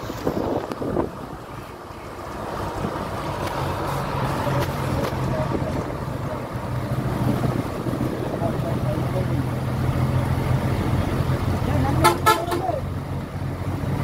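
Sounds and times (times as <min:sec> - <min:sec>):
low engine hum: 0:00.0 - 0:14.0
tyres and engine rumbling: 0:00.0 - 0:14.0.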